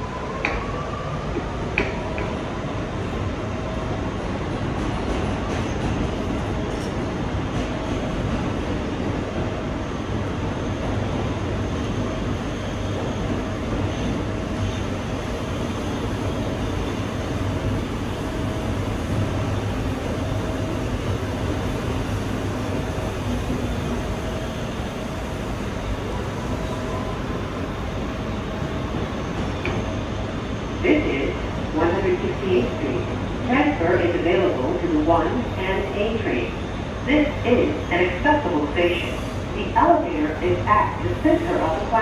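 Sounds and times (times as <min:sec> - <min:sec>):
subway wheels rumbling on rails: 0:00.0 - 0:42.0.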